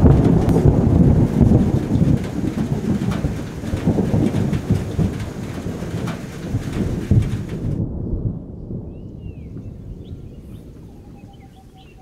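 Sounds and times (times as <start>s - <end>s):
rain falling: 0.0s - 12.0s
thunder rumbling: 0.0s - 12.0s.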